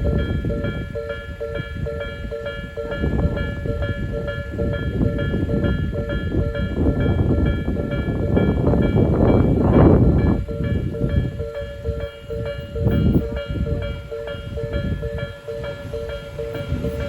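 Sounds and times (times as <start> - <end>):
level crossing bell dinging: 0.0 - 17.0
train rumbling on rails: 0.0 - 17.0.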